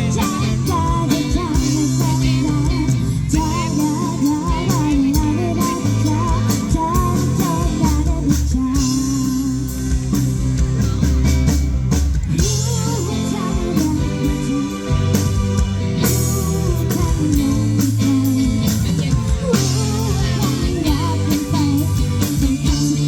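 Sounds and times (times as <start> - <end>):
live band playing pop ballad: 0.0 - 23.0
wavering lead melody with vibrato: 0.0 - 23.0.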